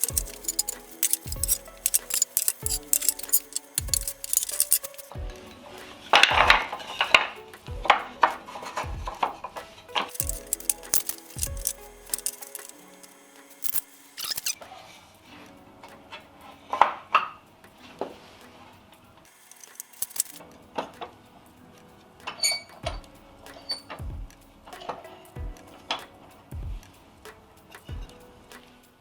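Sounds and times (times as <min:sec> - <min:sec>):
quiet background music: 0:00.0 - 0:29.0.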